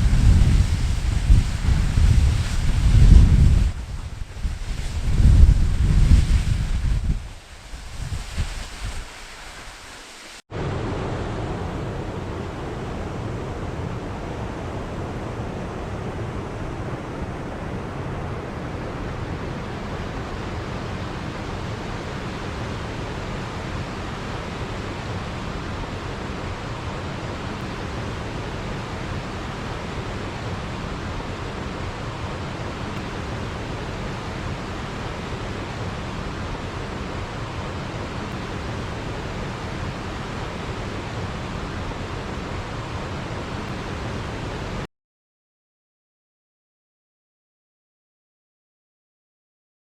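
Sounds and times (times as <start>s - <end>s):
waterfall roaring: 0.0s - 44.8s.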